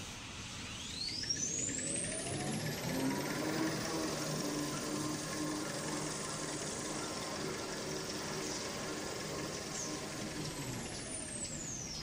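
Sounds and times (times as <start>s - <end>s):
motors and rollers turning: 0.7s - 12.0s.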